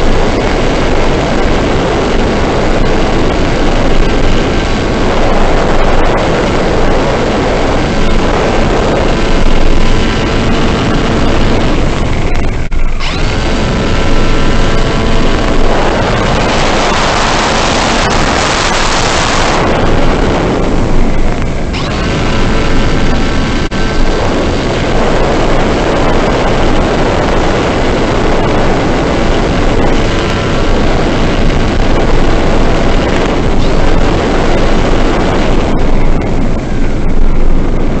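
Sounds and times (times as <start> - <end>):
motor and propeller whine: 0.0 - 38.0
wind rushing over microphone: 0.0 - 38.0.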